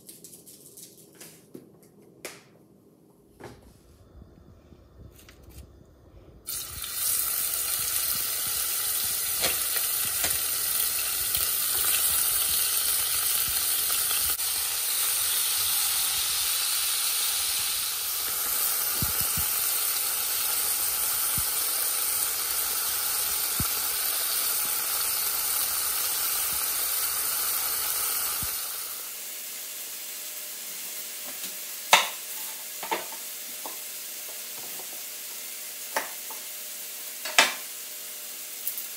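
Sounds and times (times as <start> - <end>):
meat sizzling in hot oil: 6.5 - 38.9.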